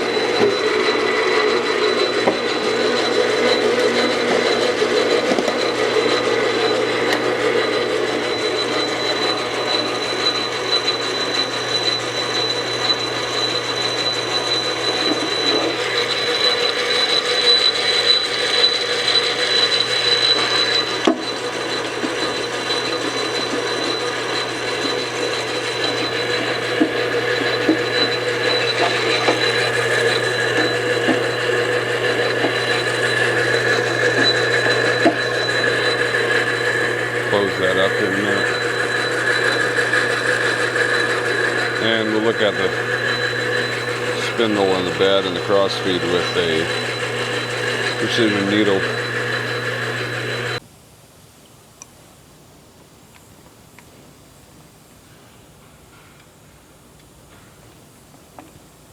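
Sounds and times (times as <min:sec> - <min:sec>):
lathe running: 0:00.0 - 0:50.6.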